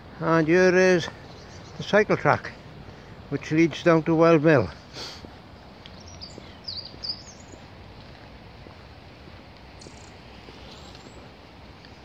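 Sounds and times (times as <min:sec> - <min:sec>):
outdoor background noise: 0:00.0 - 0:12.0
small birds chirping: 0:00.1 - 0:04.0, 0:04.9 - 0:12.0.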